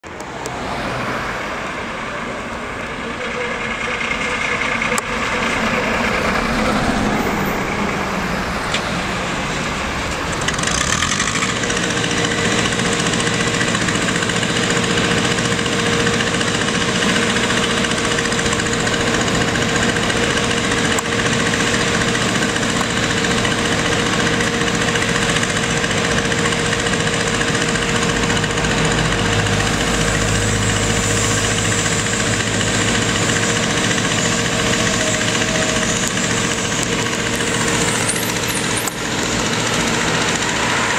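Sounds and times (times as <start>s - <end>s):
heavy engine running: 0.0s - 40.9s
passing street traffic: 0.0s - 40.9s.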